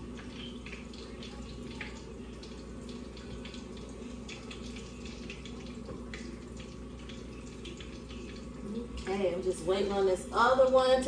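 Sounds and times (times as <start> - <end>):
fish deep-frying sizzle: 0.0 - 11.0.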